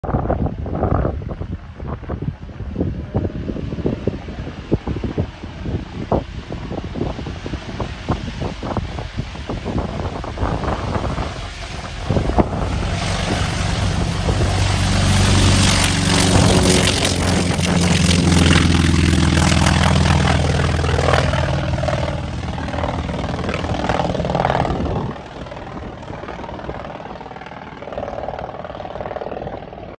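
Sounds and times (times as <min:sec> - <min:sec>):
radial aircraft engine at full power: 0:00.0 - 0:30.0
wind buffeting microphone: 0:00.0 - 0:30.0.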